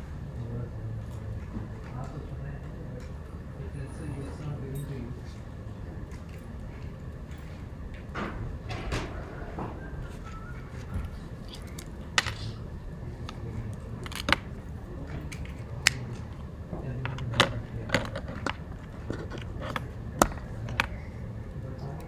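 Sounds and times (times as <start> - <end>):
low steady hum: 0.0 - 22.0
faint murmuring voices: 0.2 - 22.0.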